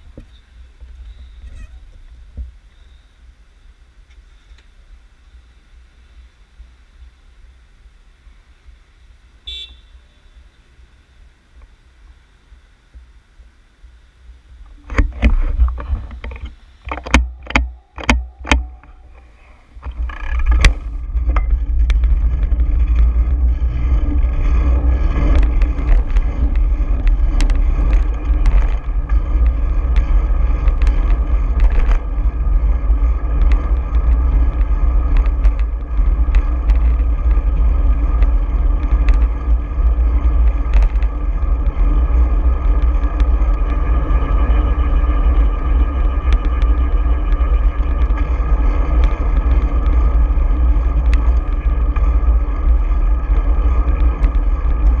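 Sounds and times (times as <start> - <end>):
wind noise on microphone: 0.0 - 8.8, 14.3 - 55.0
bicycle tyre noise: 0.0 - 55.0
street traffic: 0.0 - 55.0.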